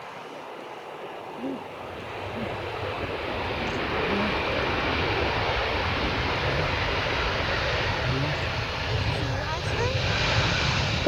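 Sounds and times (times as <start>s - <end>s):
jet airliner engine rush: 0.6s - 11.0s.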